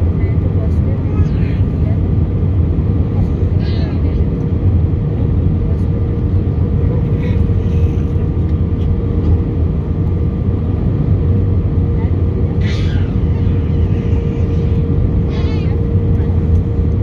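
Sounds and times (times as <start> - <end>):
airliner engine and airflow rumble: 0.0 - 17.0
constant hum: 0.0 - 17.0.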